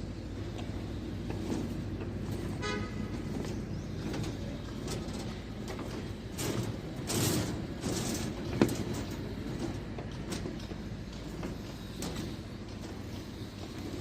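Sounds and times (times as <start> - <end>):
knocks and scraping: 0.9 - 13.8.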